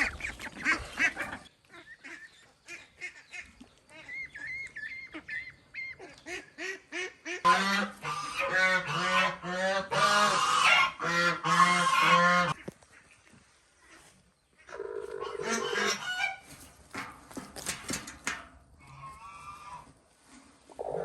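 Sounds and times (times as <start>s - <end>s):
ducks quacking: 0.0s - 17.1s, 18.3s - 19.9s.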